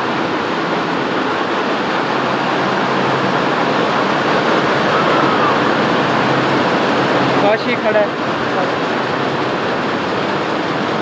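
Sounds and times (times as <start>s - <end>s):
factory machinery running: 0.0s - 11.0s.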